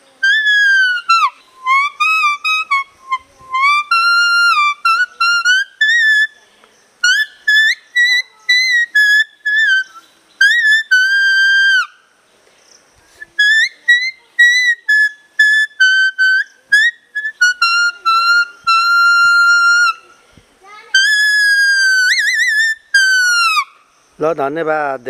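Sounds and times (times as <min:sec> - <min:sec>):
leaf whistle melody: 0:00.0 - 0:12.1, 0:13.0 - 0:24.1.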